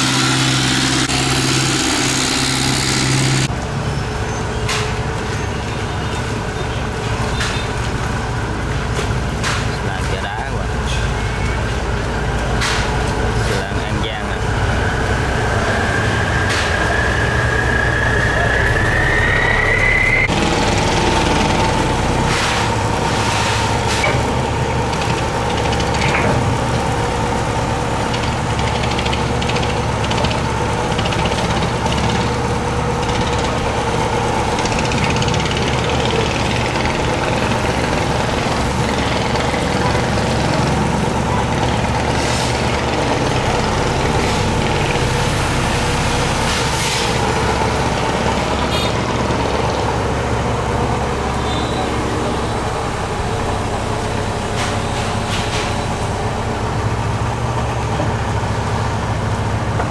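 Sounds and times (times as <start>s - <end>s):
boat engine droning: 0.0s - 4.5s, 5.1s - 59.9s.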